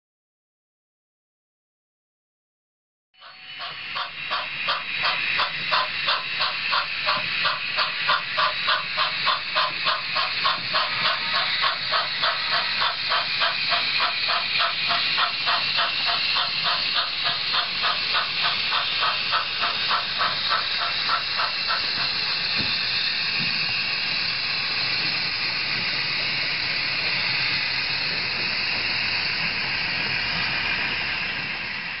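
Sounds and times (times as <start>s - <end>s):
steady steam hiss: 3.2s - 32.0s
steam locomotive exhaust chuffs: 3.2s - 32.0s.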